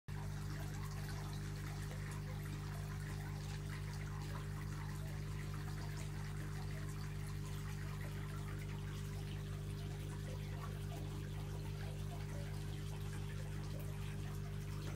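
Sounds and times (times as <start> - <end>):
constant low hum: 0.1 - 14.9
water trickling and pouring: 0.1 - 14.9.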